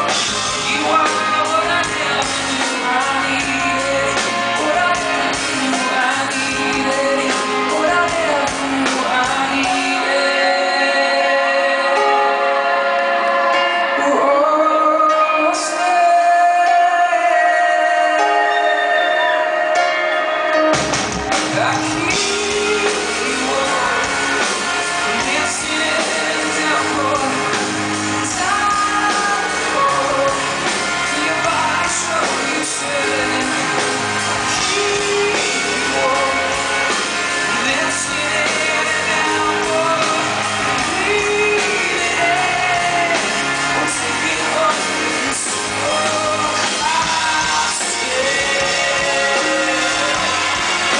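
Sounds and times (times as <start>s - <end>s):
live rock band: 0.0s - 50.9s
man singing: 0.0s - 50.9s.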